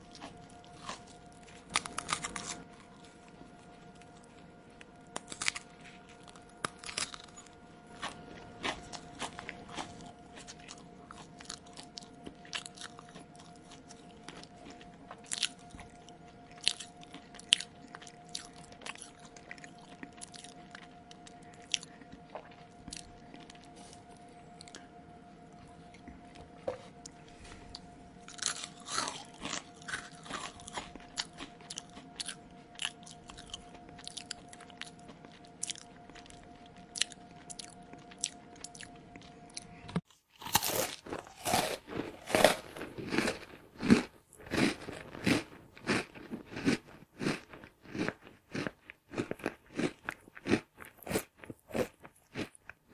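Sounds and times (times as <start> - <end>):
faint steady hum: 0.0 - 52.9
mouth chewing crunchy food: 0.0 - 52.9.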